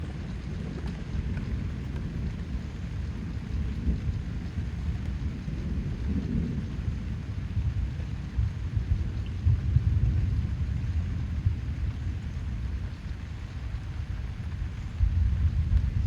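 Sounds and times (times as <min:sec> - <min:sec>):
rain pattering on foliage: 0:00.0 - 0:16.0.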